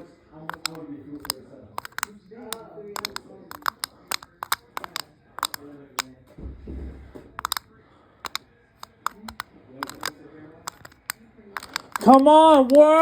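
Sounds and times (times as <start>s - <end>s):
plastic remote buttons clicking: 0.5s - 6.1s, 7.4s - 7.7s, 8.3s - 13.0s.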